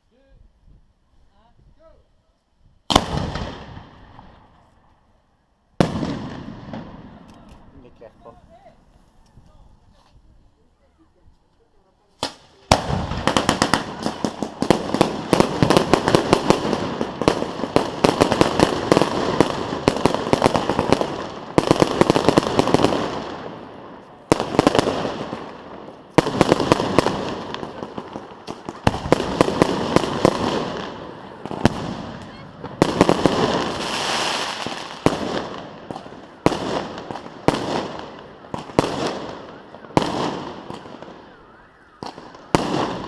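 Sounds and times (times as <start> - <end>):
fireworks bangs and crackling: 2.8 - 4.9, 5.8 - 8.6, 12.2 - 43.0.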